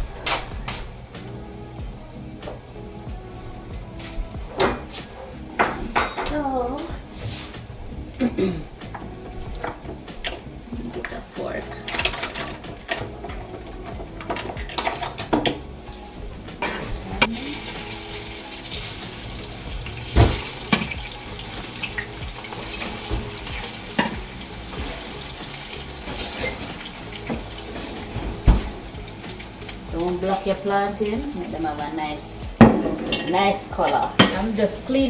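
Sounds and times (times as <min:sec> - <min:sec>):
plantains sizzling in hot oil: 0:06.4 - 0:35.0.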